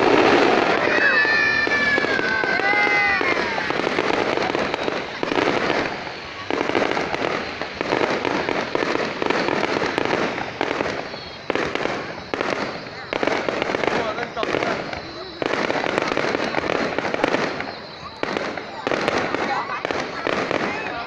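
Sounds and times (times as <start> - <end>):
fireworks crackling: 0.0 - 21.0
high gliding whistles: 0.0 - 21.0.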